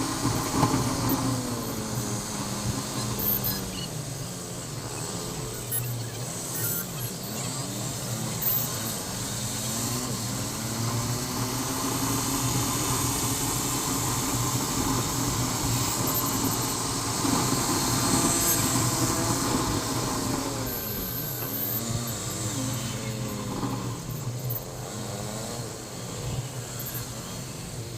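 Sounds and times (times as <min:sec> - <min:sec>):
motorcycle engine running: 0:00.0 - 0:27.9
road and wind noise: 0:00.0 - 0:27.9.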